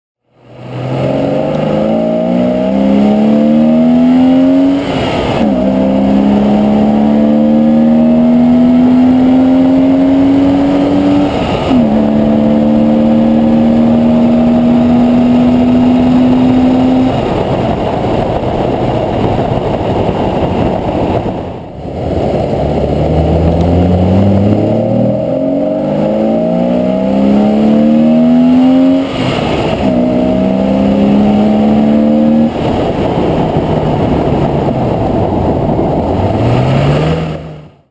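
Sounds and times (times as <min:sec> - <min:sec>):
car engine accelerating: 0:00.2 - 0:37.9
tyre and road noise: 0:00.2 - 0:37.9.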